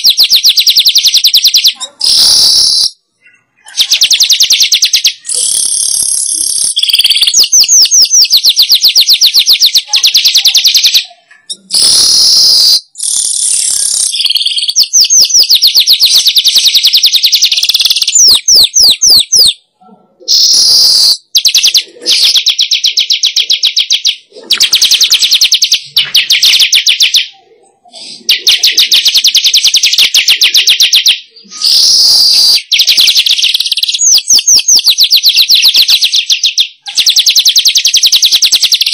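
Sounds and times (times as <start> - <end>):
bird song chattering: 0.0 - 19.6, 20.2 - 38.9.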